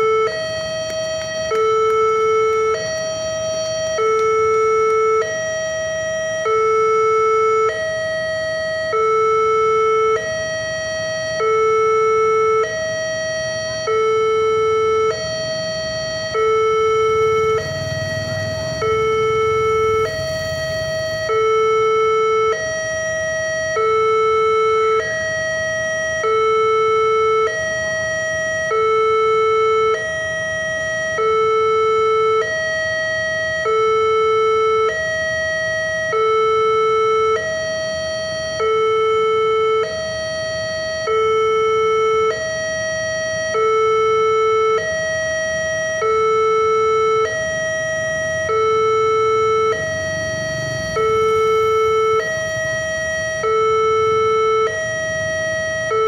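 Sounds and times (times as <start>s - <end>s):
level crossing two-tone alarm: 0.0s - 56.0s.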